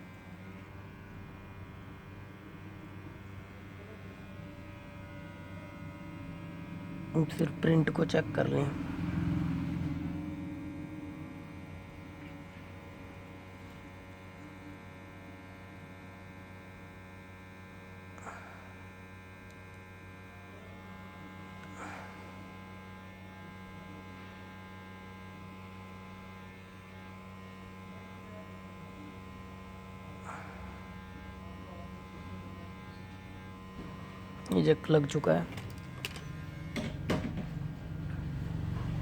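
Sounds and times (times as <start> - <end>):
hot-air station humming: 0.0 - 39.0.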